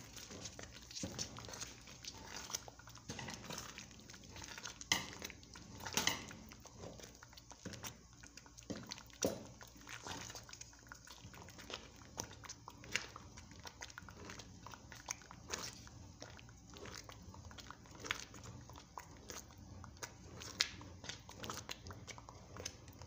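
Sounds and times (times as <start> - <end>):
spoon mashing sticky rice: 0.0 - 23.0.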